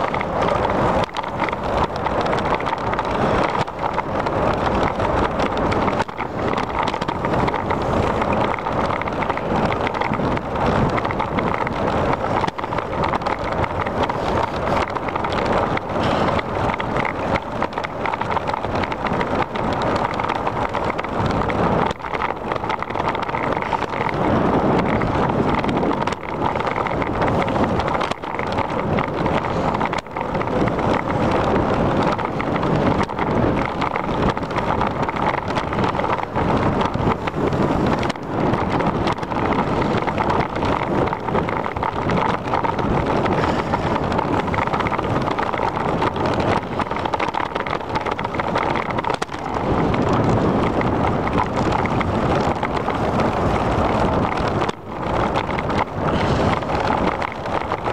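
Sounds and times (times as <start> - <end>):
wind rushing over microphone: 0.0 - 57.9.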